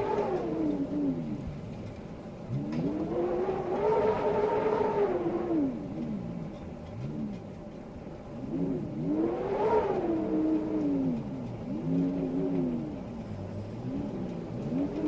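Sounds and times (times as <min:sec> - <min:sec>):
wind howling in gusts: 0:00.0 - 0:15.0.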